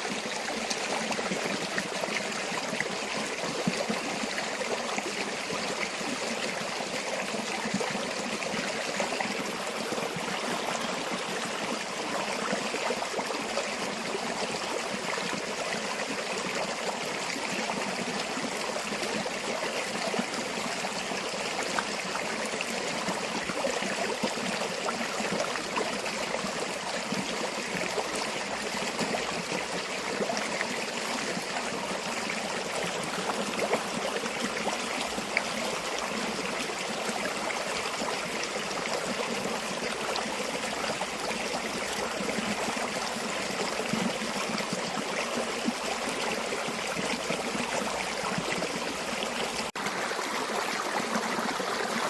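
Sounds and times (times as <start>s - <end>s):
stream flowing over stones: 0.0s - 52.0s.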